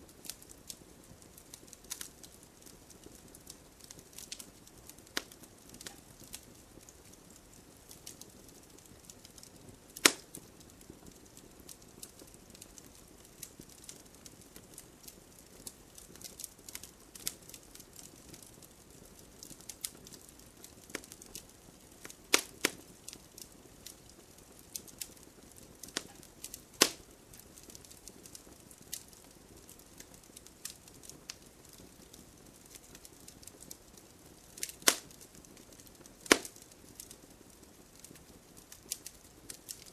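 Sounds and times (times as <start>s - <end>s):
wood fire crackling: 0.0s - 39.9s
fire pops: 0.1s - 39.9s.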